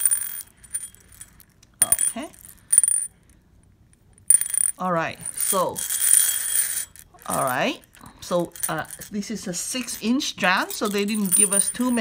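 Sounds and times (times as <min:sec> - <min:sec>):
glass beads rattling in ceramic bowl: 0:00.0 - 0:03.2, 0:04.3 - 0:12.0.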